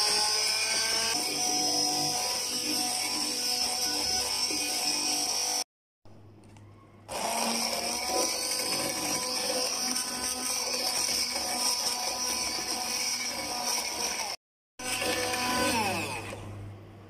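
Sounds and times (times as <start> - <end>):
immersion blender motor whine: 0.0 - 5.7, 7.1 - 16.6.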